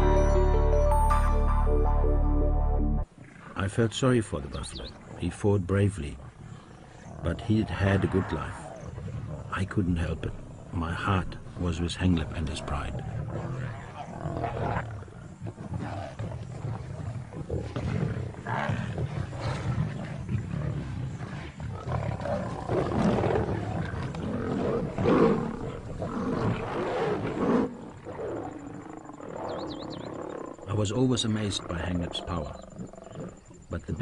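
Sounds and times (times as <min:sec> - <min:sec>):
lions growling: 0:06.2 - 0:33.9.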